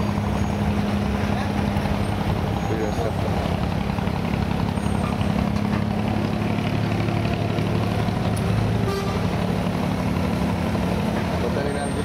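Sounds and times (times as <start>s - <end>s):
boat diesel engine idling: 0.0s - 12.0s.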